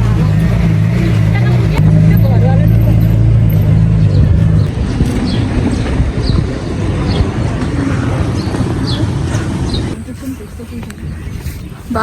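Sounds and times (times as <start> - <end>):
vehicle rumble from inside: 0.0 - 10.1
engine hum: 0.0 - 12.0
wind buffeting microphone: 0.0 - 12.0.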